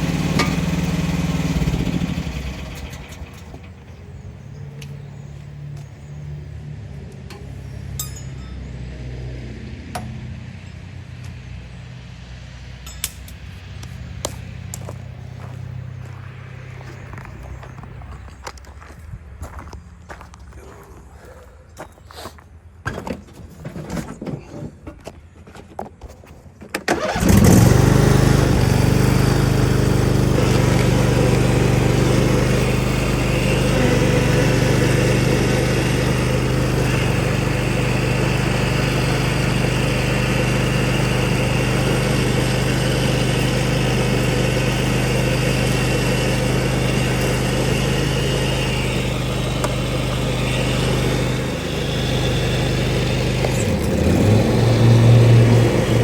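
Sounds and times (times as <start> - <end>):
lawn mower engine running: 0.0 - 8.7, 9.3 - 18.9, 26.8 - 56.0.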